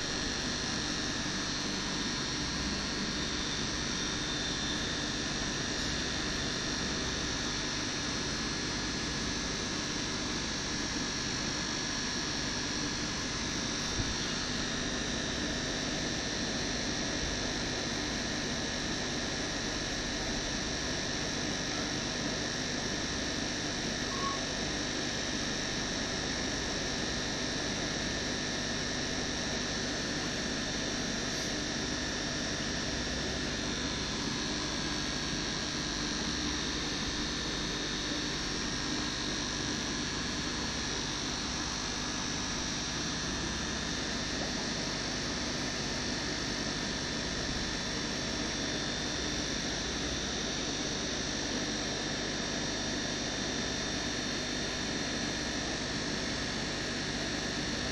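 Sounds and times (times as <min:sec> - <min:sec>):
aquarium pump humming: 0:00.0 - 0:57.9.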